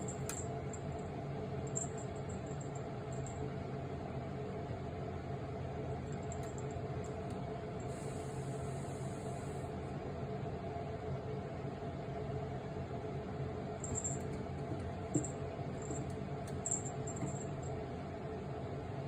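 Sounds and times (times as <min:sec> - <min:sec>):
appliance humming: 0:00.0 - 0:19.0.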